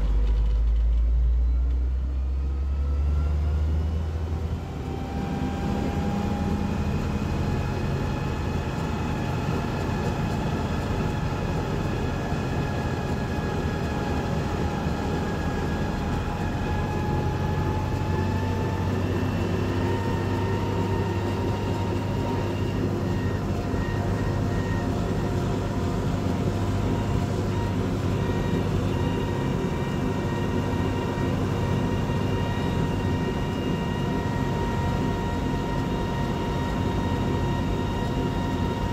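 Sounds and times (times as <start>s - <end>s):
tractor diesel engine running: 6.6s - 38.9s.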